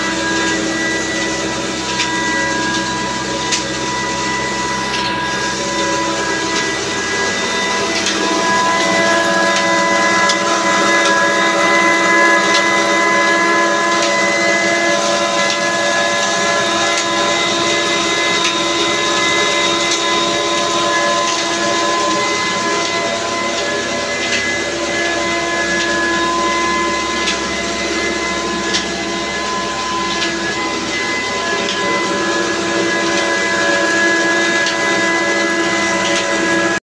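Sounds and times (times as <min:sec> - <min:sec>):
flour mill machinery running: 0:00.0 - 0:36.8
steady whine: 0:00.0 - 0:36.8.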